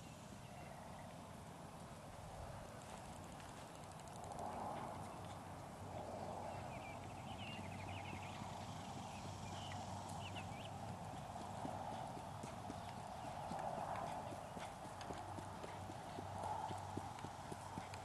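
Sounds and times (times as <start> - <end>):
faint horse hoofbeats: 2.1 - 18.0.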